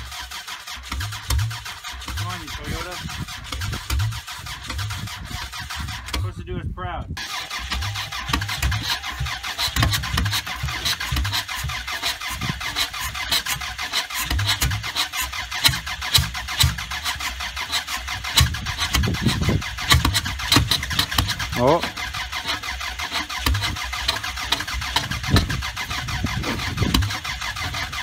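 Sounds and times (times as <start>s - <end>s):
car engine cranking: 0.0s - 28.0s.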